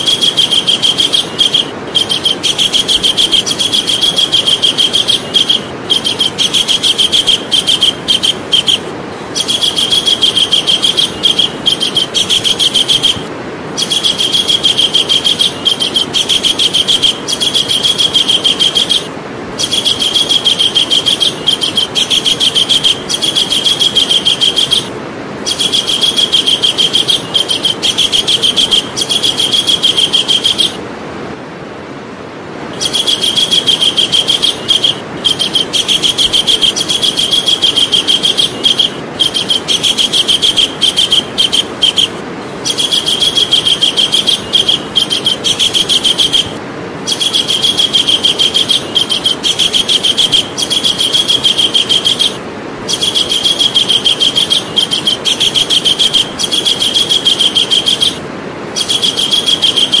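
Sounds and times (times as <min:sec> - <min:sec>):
kingfisher chattering call: 0:00.0 - 0:30.8, 0:32.8 - 0:58.2, 0:58.8 - 1:00.0
steady background hiss: 0:00.0 - 1:00.0.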